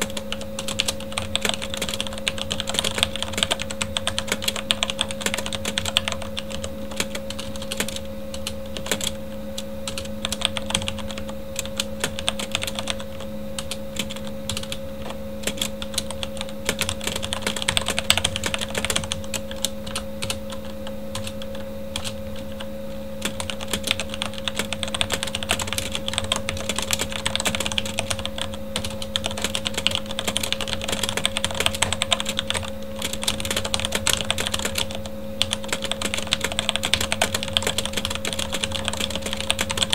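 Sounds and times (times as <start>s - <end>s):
computer fan hum: 0.0s - 39.9s
fast mechanical keyboard typing: 0.0s - 39.9s.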